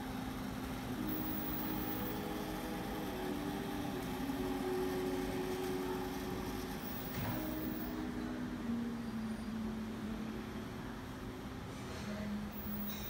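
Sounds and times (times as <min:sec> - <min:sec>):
low room hum: 0:00.0 - 0:13.0
faint held tones: 0:01.0 - 0:11.5.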